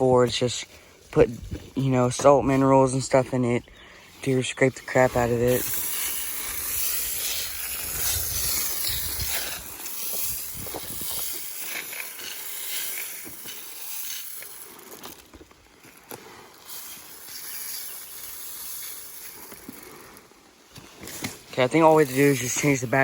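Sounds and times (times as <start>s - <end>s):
rustling and hissing noise: 0.0s - 23.0s
insects buzzing: 3.3s - 23.0s.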